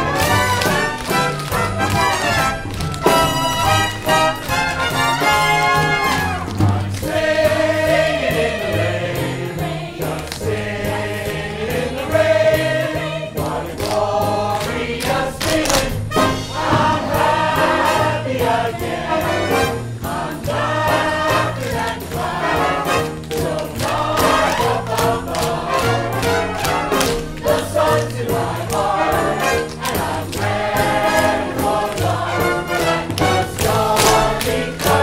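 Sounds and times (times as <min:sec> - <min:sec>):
chorus singing a show tune: 0:00.0 - 0:35.0
instrumental accompaniment with beat: 0:00.0 - 0:35.0.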